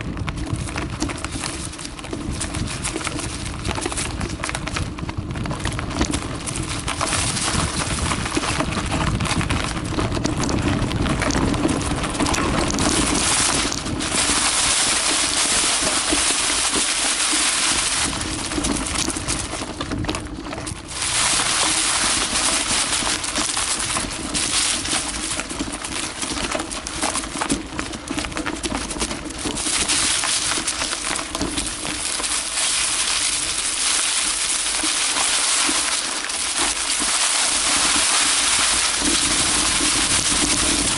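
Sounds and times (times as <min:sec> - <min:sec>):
bike chain and frame rattling: 0:00.0 - 0:40.9
bike tyres crunching over dirt: 0:00.0 - 0:40.9.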